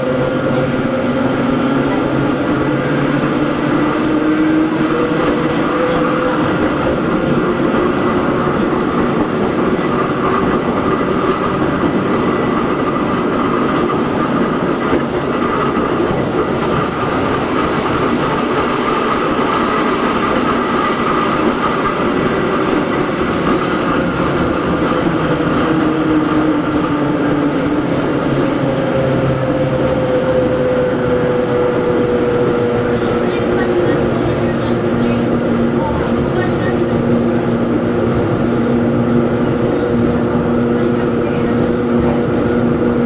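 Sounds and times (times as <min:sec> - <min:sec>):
wheel and rail noise: 0:00.0 - 0:43.0.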